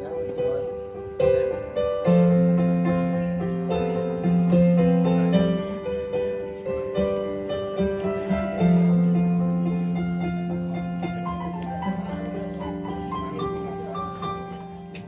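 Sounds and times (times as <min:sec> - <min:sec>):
slow piano playing: 0:00.0 - 0:15.0.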